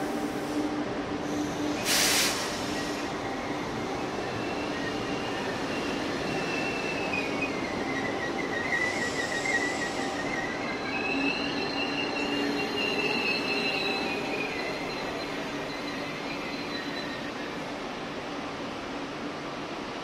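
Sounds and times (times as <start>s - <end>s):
train wheels squealing on rails: 0.0s - 18.2s.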